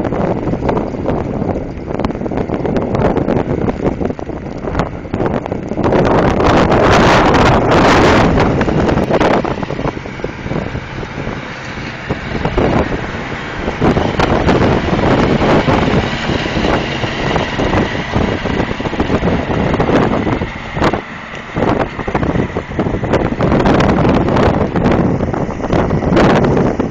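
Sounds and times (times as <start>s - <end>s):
tractor engine: 0.0s - 26.9s
wind buffeting microphone: 0.0s - 26.9s.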